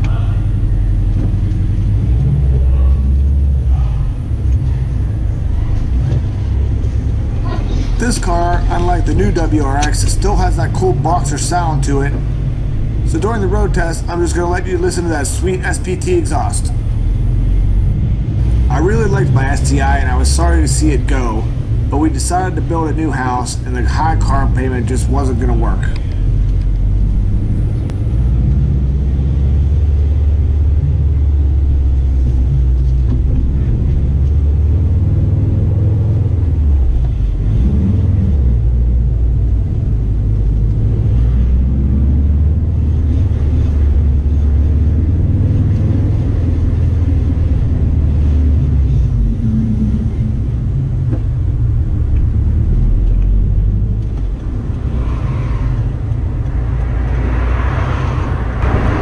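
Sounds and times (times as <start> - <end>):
car engine rumble while driving: 0.0 - 59.0.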